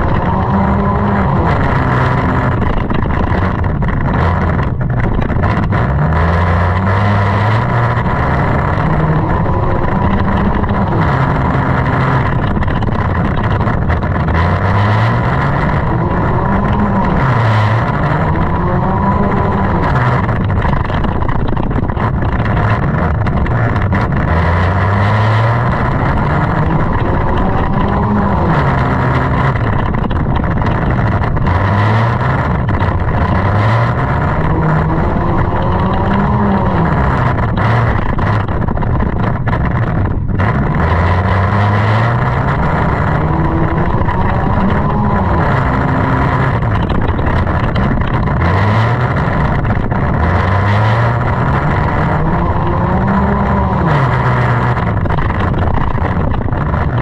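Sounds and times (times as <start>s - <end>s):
race car engine revving: 0.0s - 57.0s
steady loud rushing noise: 0.0s - 57.0s.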